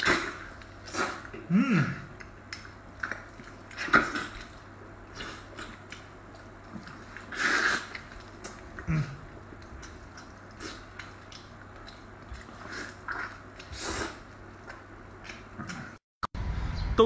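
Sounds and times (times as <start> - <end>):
wet sticky biting and chewing: 2.1 - 16.0.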